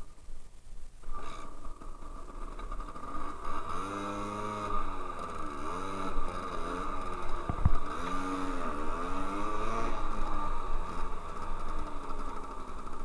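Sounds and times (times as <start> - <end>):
moped two-stroke engine running: 1.1 - 13.0.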